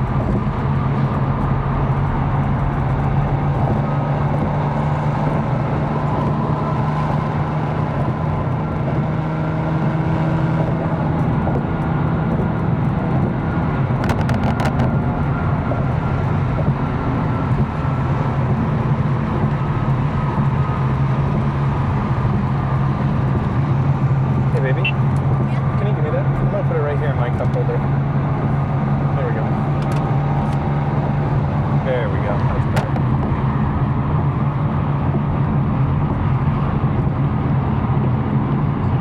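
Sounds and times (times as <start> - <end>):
car engine droning: 0.0 - 39.0
tyre and road noise: 0.0 - 39.0.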